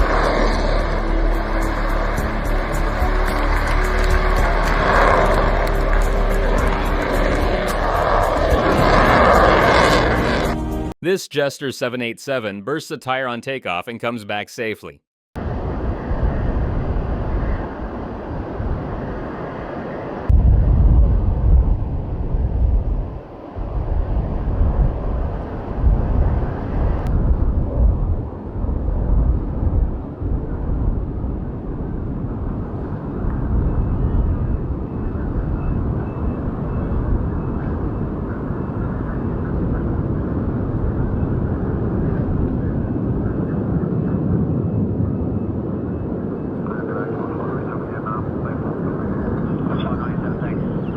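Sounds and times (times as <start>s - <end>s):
jet engines rumbling: 0.0s - 11.0s, 15.4s - 50.9s.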